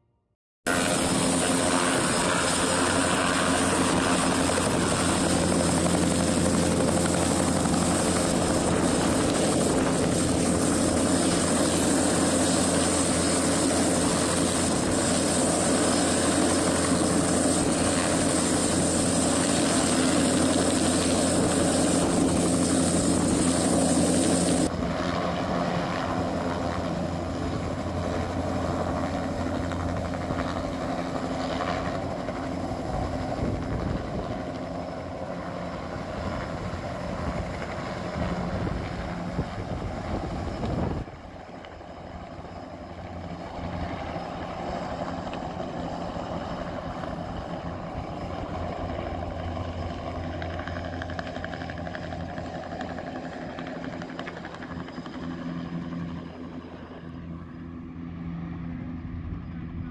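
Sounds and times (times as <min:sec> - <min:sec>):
helicopter turbine and rotor noise: 0:00.7 - 0:59.9.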